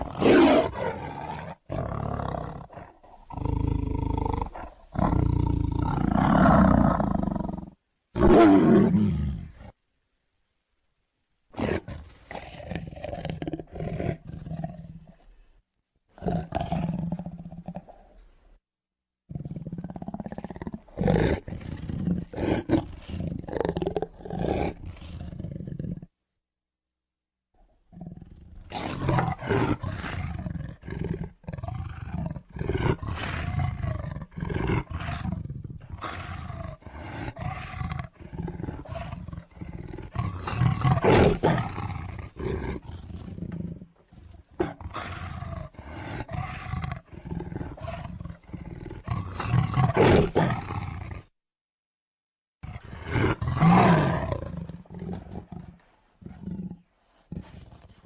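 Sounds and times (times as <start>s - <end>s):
tiger roaring: 0.0s - 9.7s, 11.6s - 15.2s, 16.2s - 18.1s, 19.3s - 26.1s, 27.9s - 51.3s, 52.6s - 58.0s.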